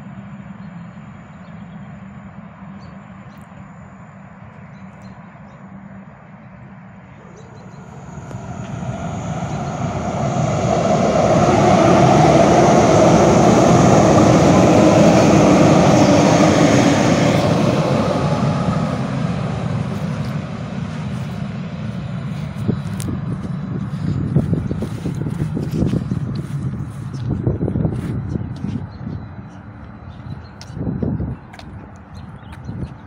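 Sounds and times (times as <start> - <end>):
train passing close: 0.0 - 33.0.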